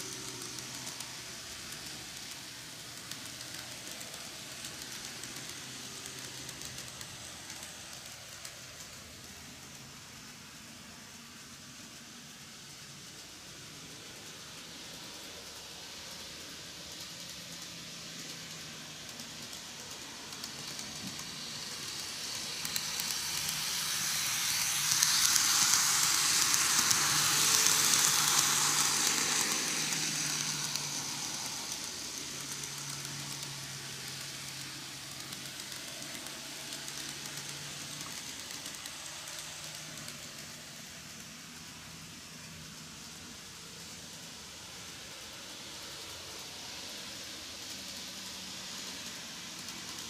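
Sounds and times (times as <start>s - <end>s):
model train wheels hissing: 0.0s - 50.0s.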